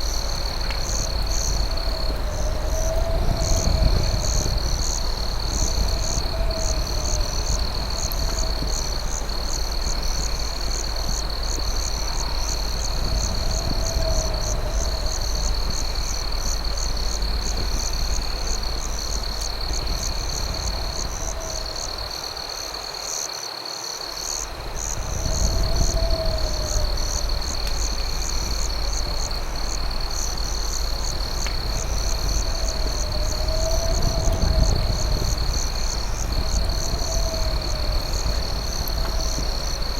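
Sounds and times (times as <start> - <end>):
low rumble: 0.0 - 22.3, 24.6 - 39.9
crickets trilling: 0.0 - 39.9.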